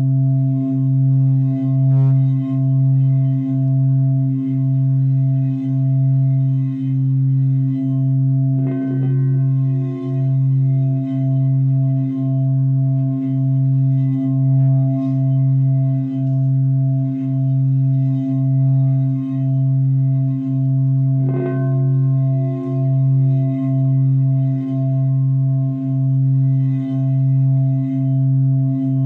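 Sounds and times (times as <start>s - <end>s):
singing bowl low tone: 0.0s - 29.0s.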